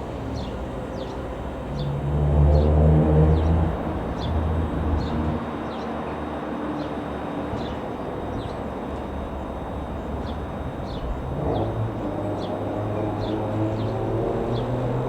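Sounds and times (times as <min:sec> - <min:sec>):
aircraft piston engine running: 0:00.0 - 0:02.5, 0:03.2 - 0:15.0.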